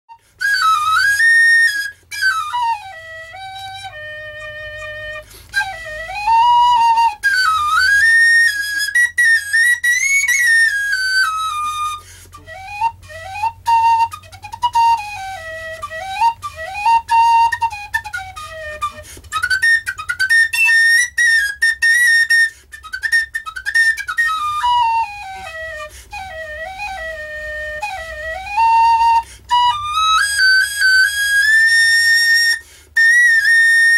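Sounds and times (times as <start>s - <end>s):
flute melody: 0.1s - 33.9s.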